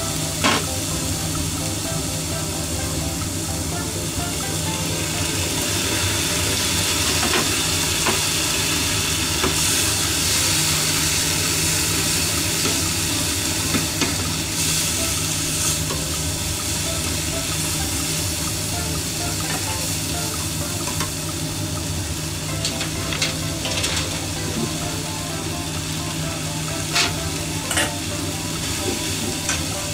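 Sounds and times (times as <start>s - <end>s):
greens sizzling in a pan: 0.0s - 29.9s.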